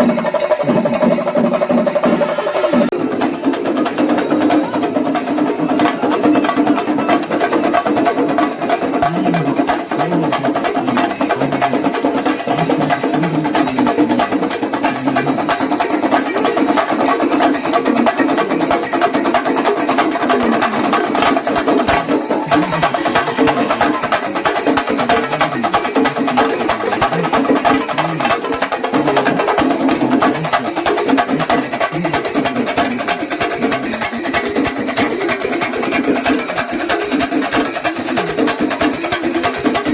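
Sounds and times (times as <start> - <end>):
drums beaten in fast rhythm: 0.0 - 39.9
hand cymbals clashing: 0.0 - 39.9.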